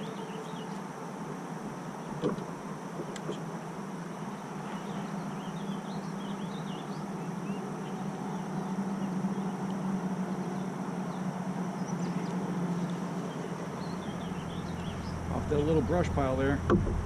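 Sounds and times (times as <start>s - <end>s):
small birds chirping: 0.0s - 0.9s, 1.8s - 16.6s
low hum and hiss: 0.0s - 17.0s.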